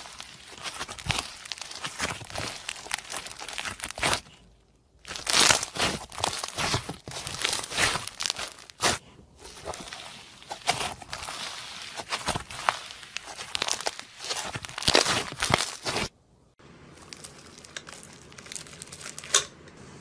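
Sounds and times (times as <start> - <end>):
slime crackling and popping: 0.0 - 4.4, 5.0 - 16.1, 16.9 - 19.5.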